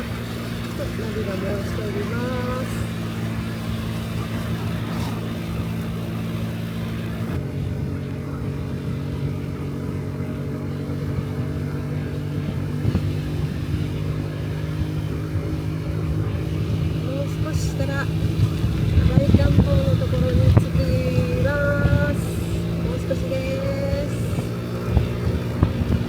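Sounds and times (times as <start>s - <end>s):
scooter engine running: 0.0s - 26.0s
wind noise: 0.0s - 26.0s.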